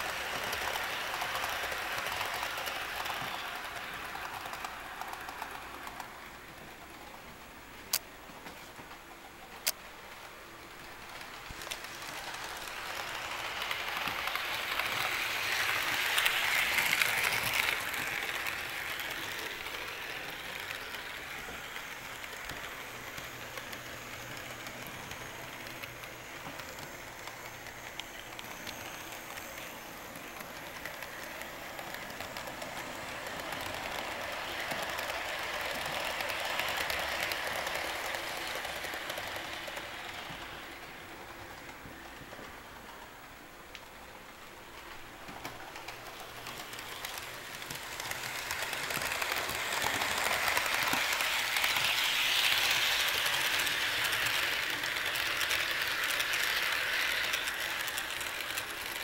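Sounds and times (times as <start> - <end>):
model train wheels rattling: 0.0 - 59.0.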